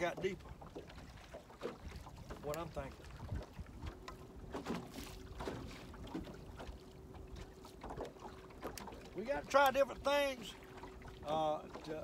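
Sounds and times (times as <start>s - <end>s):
waves lapping against boat hull: 0.0s - 12.0s.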